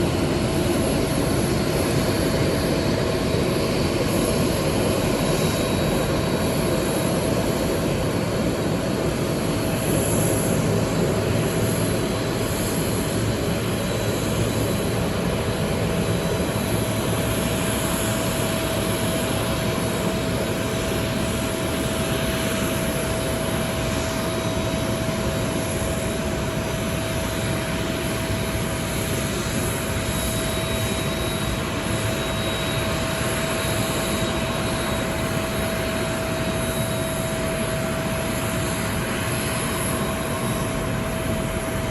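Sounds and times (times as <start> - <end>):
jet engines idling: 0.0 - 41.9.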